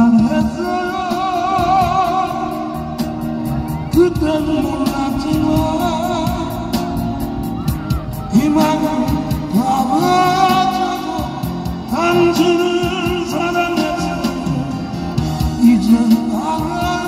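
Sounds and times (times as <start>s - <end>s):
man singing a ballad: 0.0s - 17.0s.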